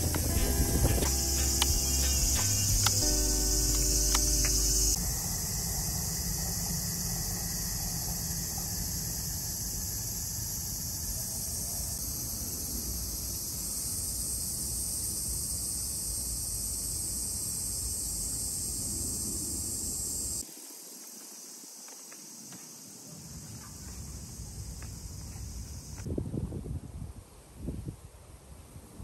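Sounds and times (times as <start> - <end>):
cicadas singing: 0.0 - 26.1.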